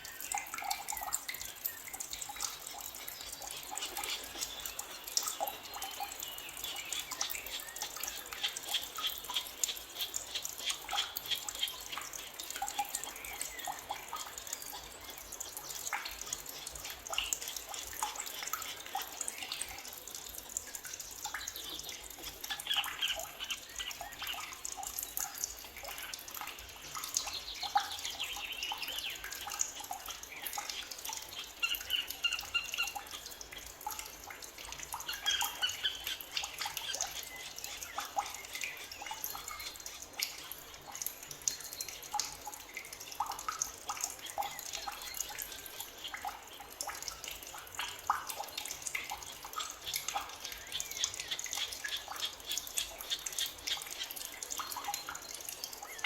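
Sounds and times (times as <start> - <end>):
dense patter of tiny clicks: 0.0 - 56.0.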